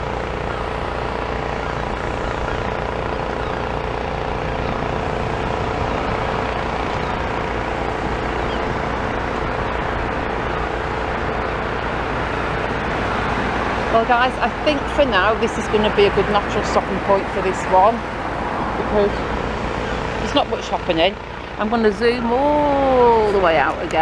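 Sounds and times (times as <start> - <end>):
engine hum: 0.0 - 24.0
road traffic noise: 0.0 - 24.0.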